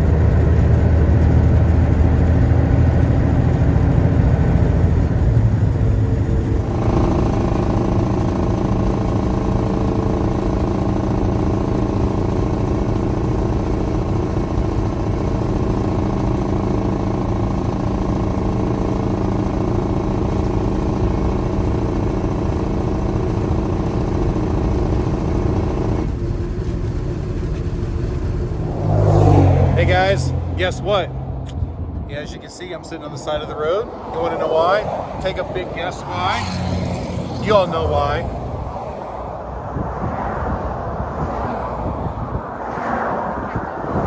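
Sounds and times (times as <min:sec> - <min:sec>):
truck engine droning: 0:00.0 - 0:44.0.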